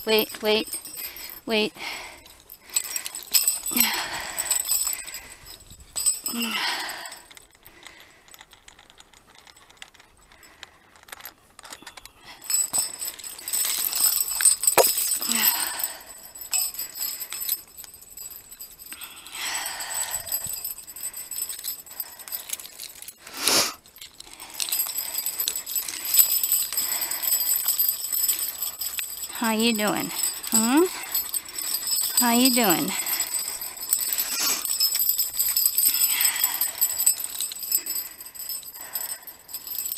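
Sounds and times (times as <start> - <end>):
dog harness jingling: 0.0 - 39.9
rustling: 6.9 - 39.9.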